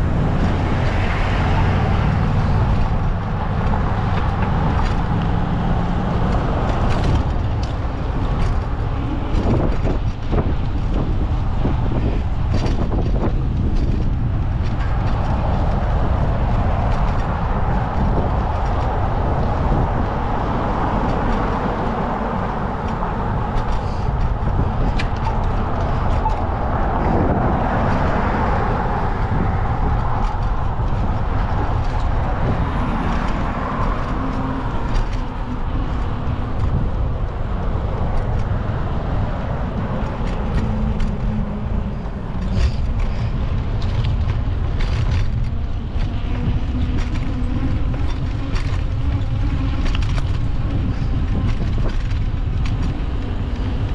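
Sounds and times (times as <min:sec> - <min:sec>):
street traffic noise: 0:00.0 - 0:53.9
vehicle passing: 0:00.0 - 0:53.9
wind rumbling on microphone: 0:00.0 - 0:53.9.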